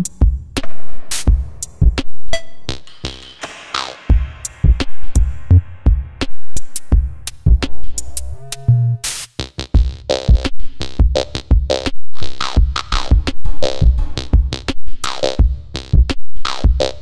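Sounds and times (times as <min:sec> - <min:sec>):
electronic music with drum beat: 0:00.0 - 0:17.0.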